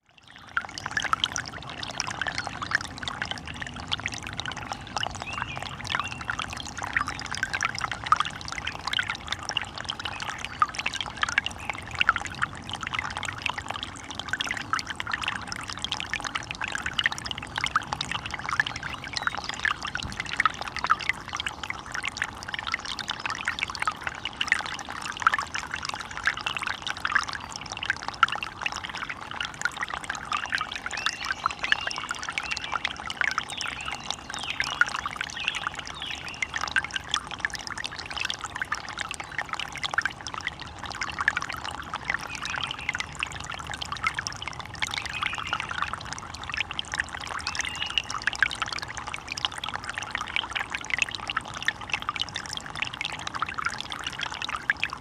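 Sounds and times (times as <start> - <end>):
stream babbling: 0.2 - 55.0.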